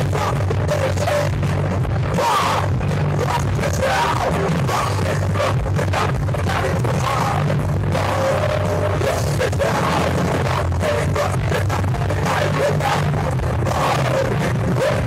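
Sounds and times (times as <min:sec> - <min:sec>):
bass guitar: 0:00.0 - 0:15.0
drum kit: 0:00.0 - 0:15.0
electric guitar: 0:00.0 - 0:15.0
person singing: 0:00.0 - 0:15.0.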